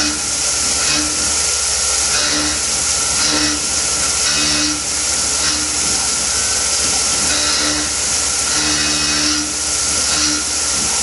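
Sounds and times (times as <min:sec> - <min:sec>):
coolant spray hissing: 0:00.0 - 0:11.0
high cutter tone: 0:00.0 - 0:11.0
low machine hum: 0:00.0 - 0:11.0
milling machine cutting metal: 0:00.0 - 0:11.0.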